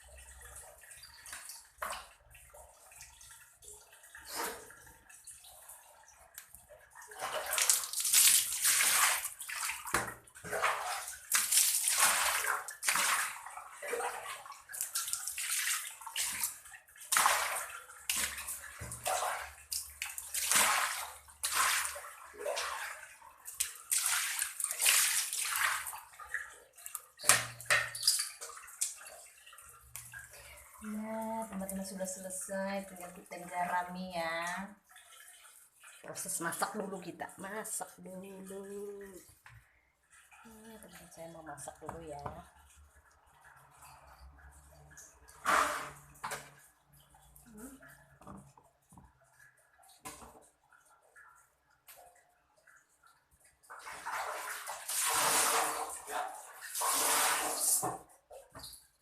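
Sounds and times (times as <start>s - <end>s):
water sloshing and splashing: 0.0s - 59.0s.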